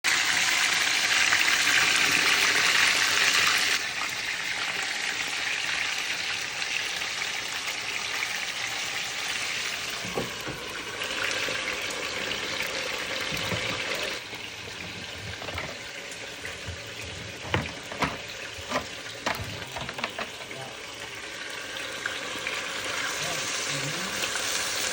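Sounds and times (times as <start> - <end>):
chicken sizzling in oil: 0.1 - 24.9.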